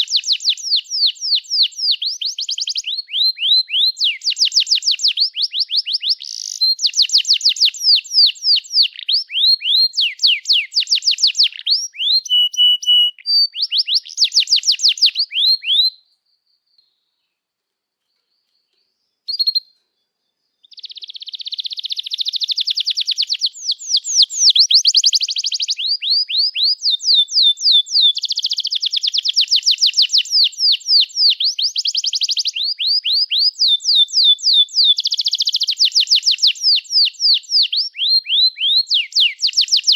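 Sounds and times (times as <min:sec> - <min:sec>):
canary singing trills: 0:00.0 - 0:17.2, 0:18.0 - 0:39.9.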